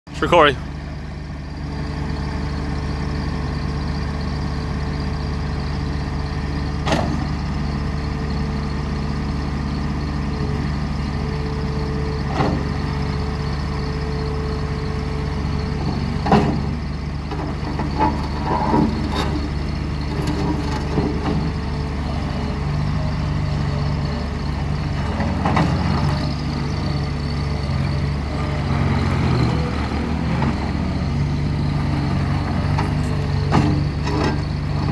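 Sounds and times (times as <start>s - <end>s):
diesel engine running: 0.1s - 34.9s
loader driving on gravel: 0.1s - 34.9s.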